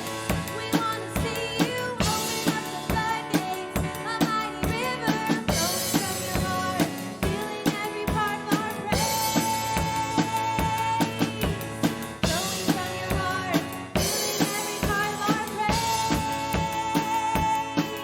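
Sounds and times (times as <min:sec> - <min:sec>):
drum kit beat: 0:00.0 - 0:18.0
worship band playing: 0:00.0 - 0:18.0.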